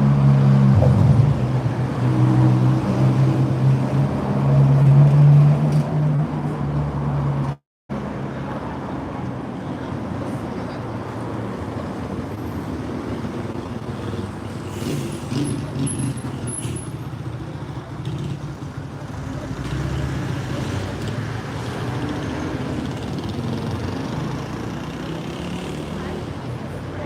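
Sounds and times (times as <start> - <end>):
vehicle engines rumbling: 0.0 - 27.0.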